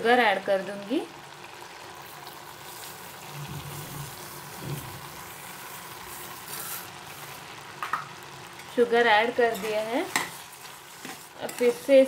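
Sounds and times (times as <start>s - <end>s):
milk bubbling and sizzling: 0.0s - 12.0s.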